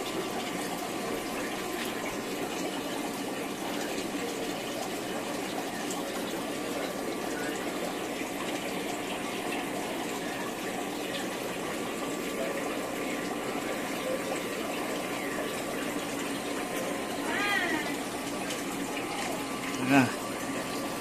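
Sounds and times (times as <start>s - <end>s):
aquarium water and air bubbles: 0.0s - 21.0s.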